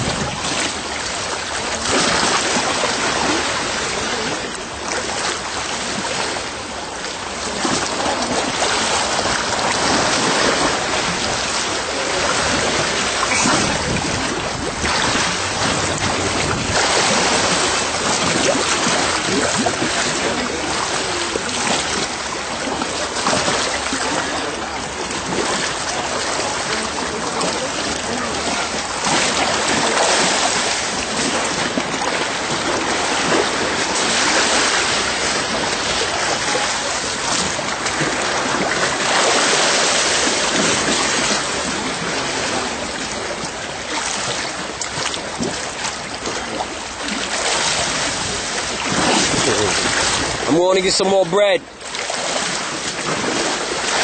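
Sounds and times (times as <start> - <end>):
sea water at shore: 0.0 - 54.0.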